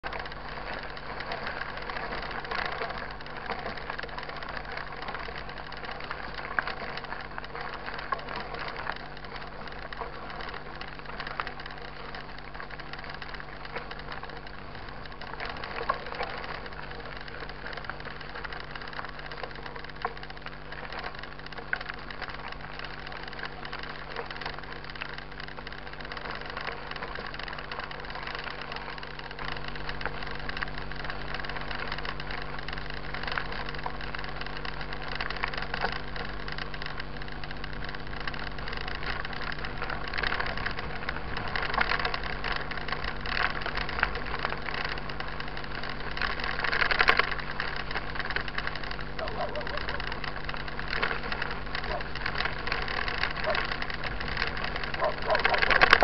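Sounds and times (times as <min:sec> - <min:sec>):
bike knocks and rattles: 0:00.0 - 0:56.0
bike tyres crunching on gravel: 0:00.0 - 0:56.0
steady low hum: 0:00.0 - 0:56.0.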